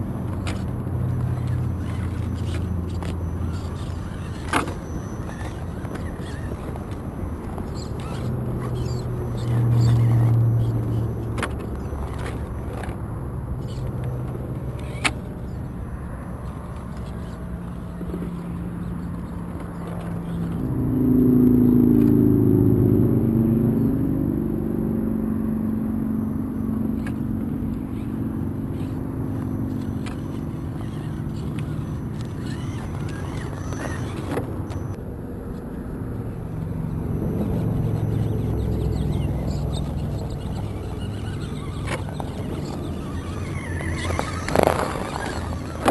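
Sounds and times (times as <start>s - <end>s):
vehicles driving past: 0.0s - 45.9s.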